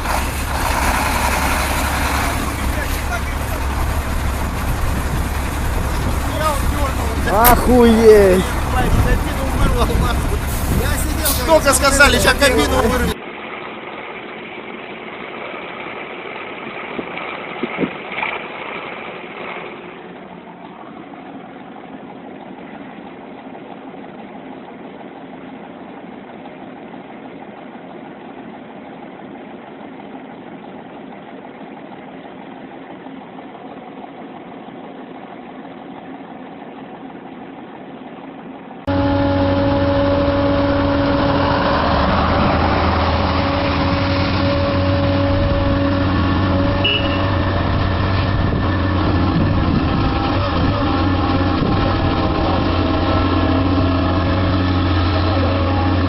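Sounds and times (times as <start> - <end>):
engine whine: 0.0 - 56.0
heavy machinery engine running: 0.0 - 56.0.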